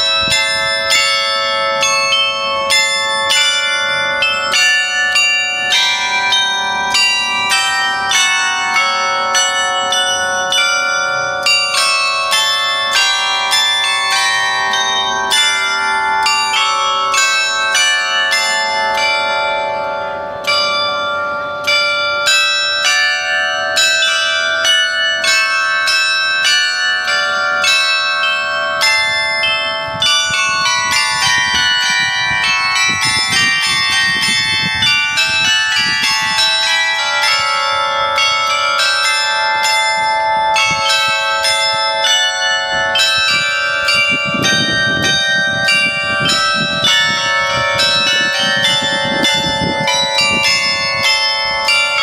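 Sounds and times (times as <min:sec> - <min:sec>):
clock bells chiming a tune: 0:00.0 - 0:52.0.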